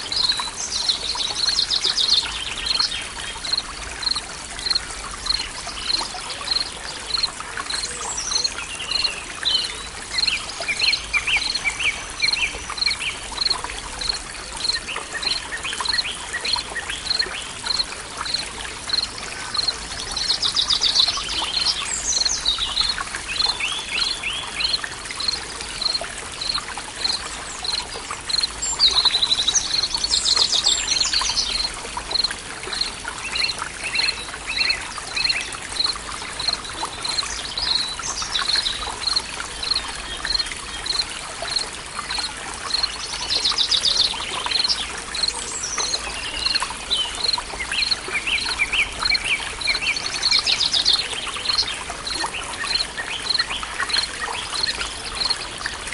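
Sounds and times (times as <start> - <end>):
water trickling: 0.0 - 55.9.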